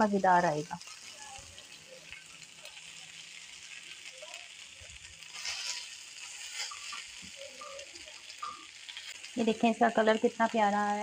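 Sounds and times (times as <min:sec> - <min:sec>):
meat sizzling on a griddle: 0:00.0 - 0:11.0.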